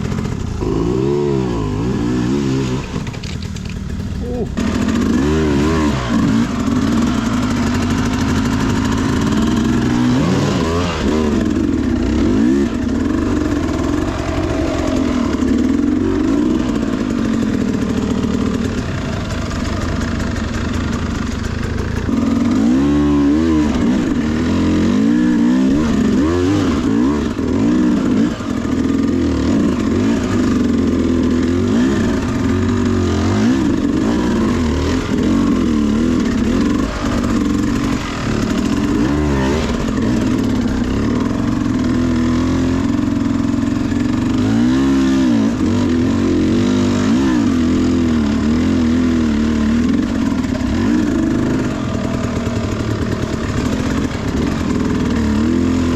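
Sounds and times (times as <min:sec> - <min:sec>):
motorcycle engine revving under load: 0:00.0 - 0:55.9.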